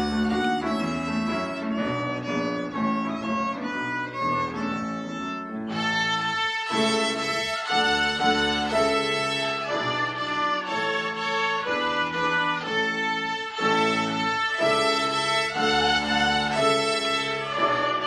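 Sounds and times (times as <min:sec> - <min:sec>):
children's violin ensemble playing: 0:00.0 - 0:18.0.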